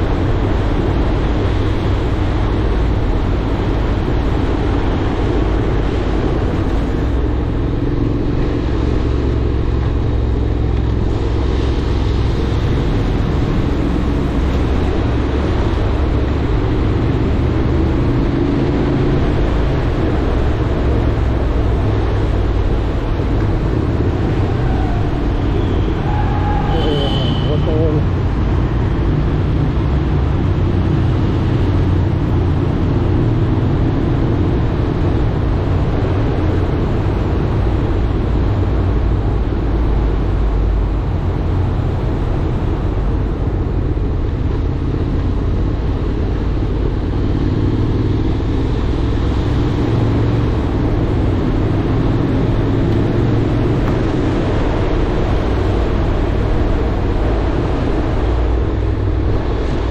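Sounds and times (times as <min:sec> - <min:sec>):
motorcycle engine and road noise: 0:00.0 - 0:59.9.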